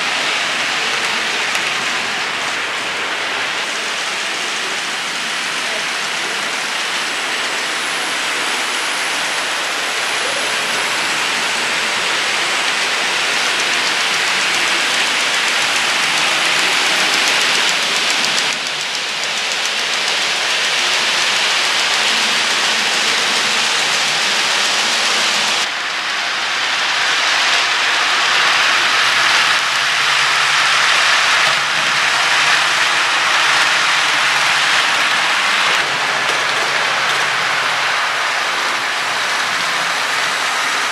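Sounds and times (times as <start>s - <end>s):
model train wheels on rails: 0.0s - 40.9s.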